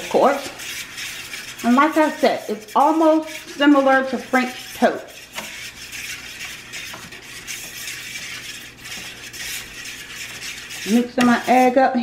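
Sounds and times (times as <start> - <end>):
fork whisking eggs: 0.0 - 12.0.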